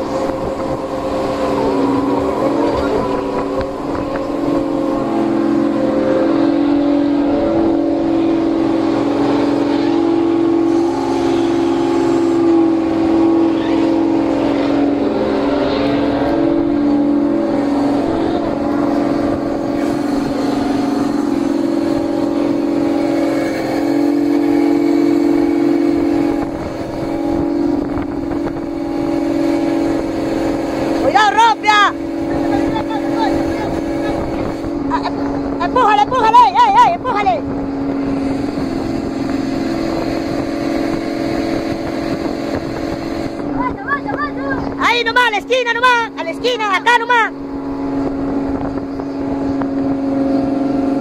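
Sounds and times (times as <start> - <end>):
boat machinery droning: 0.0 - 51.0.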